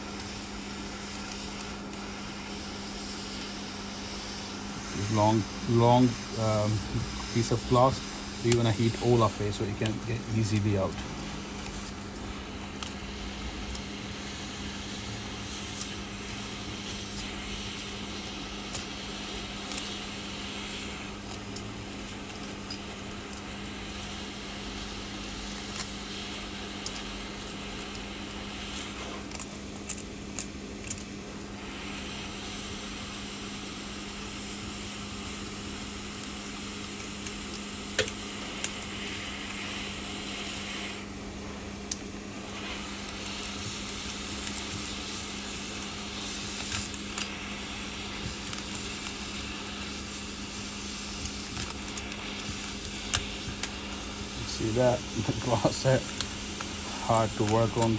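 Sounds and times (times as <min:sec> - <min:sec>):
heat gun blowing: 0:00.0 - 0:29.4, 0:31.5 - 0:57.9.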